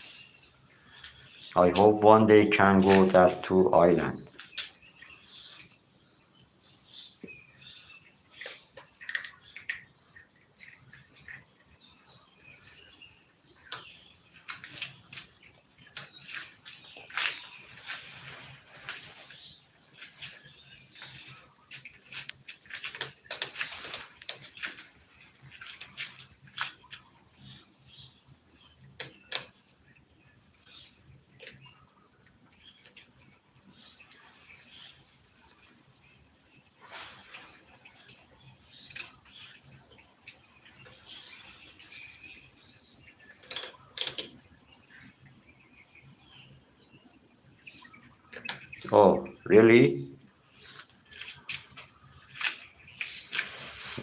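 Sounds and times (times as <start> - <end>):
high-pitched insect chorus: 0.0 - 54.0
pulsing insect trill: 0.0 - 54.0.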